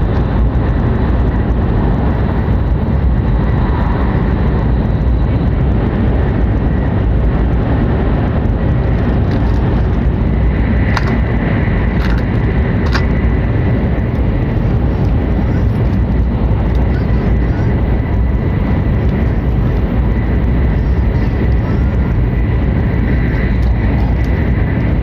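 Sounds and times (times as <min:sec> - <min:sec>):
faint high whine: 0:00.0 - 0:25.0
train running gear rumble: 0:00.0 - 0:25.0.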